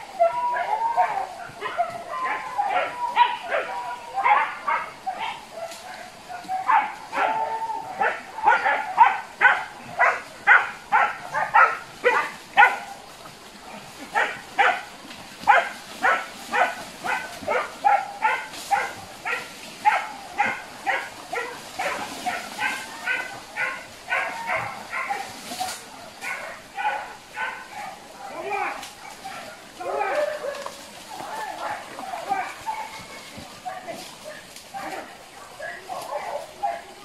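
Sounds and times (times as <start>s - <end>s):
dogs barking: 0.0s - 13.1s, 14.0s - 37.0s.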